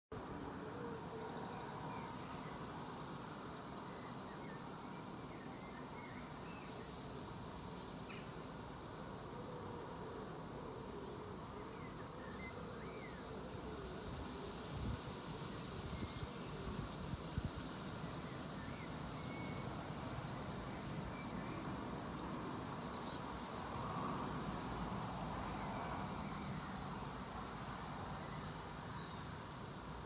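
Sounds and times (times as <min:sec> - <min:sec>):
low background noise: 0:00.1 - 0:30.0.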